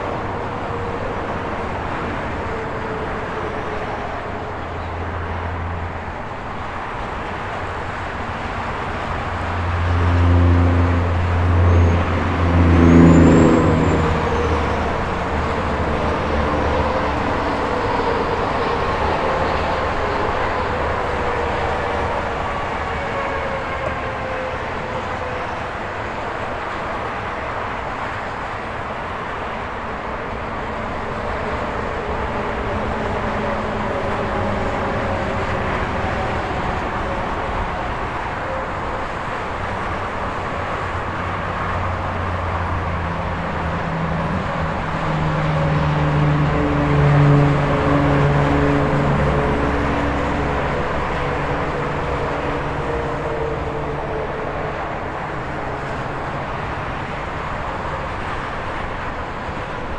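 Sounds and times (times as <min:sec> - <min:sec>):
heavy truck engine hum: 0:00.0 - 0:59.9
highway traffic rushing: 0:00.0 - 0:59.9.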